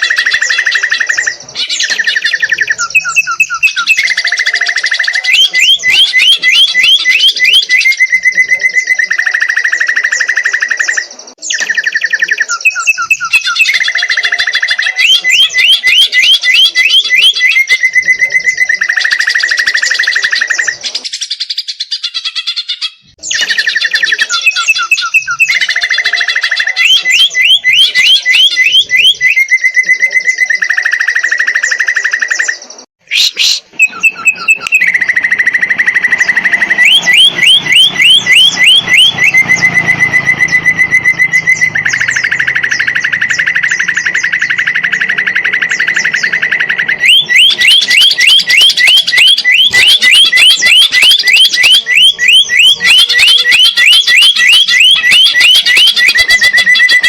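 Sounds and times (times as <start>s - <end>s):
bird singing trills and rattles: 0.0s - 57.0s.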